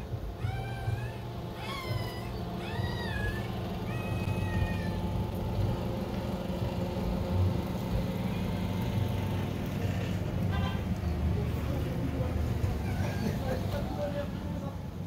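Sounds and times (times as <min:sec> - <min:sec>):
drawn-out animal calls: 0:00.0 - 0:11.0, 0:12.5 - 0:13.8
steady low hum: 0:00.0 - 0:15.0.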